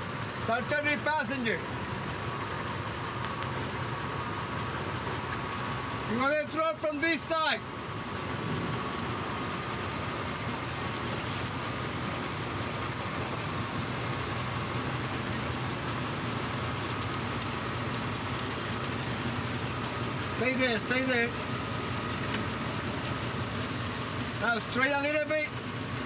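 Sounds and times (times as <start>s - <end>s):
off-road vehicle engine crawling: 0.0s - 26.0s.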